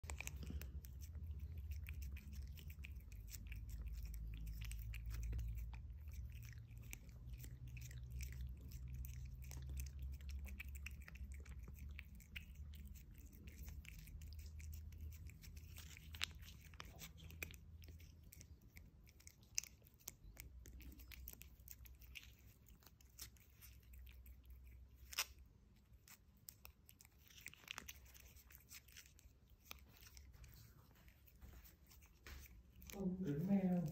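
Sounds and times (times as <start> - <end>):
cat licking and lapping: 0.0 - 33.9.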